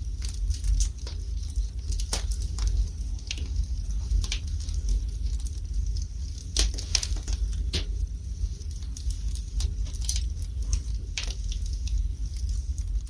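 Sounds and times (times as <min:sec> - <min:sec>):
low rumble of fire: 0:00.0 - 0:13.0
wood fire crackling and popping: 0:00.0 - 0:13.0.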